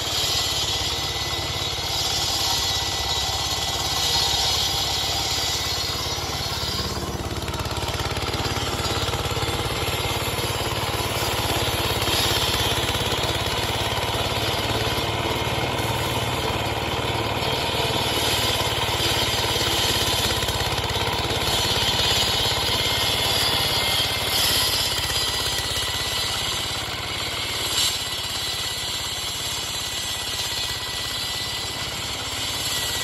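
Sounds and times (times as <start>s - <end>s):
diesel engine running under load: 0.0s - 33.0s
saw blade grinding asphalt: 0.0s - 33.0s.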